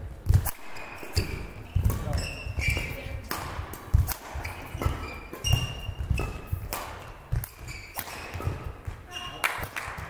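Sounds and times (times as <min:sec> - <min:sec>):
court shoes squeaking: 0:00.2 - 0:10.0
racket hitting shuttlecock: 0:00.2 - 0:10.0.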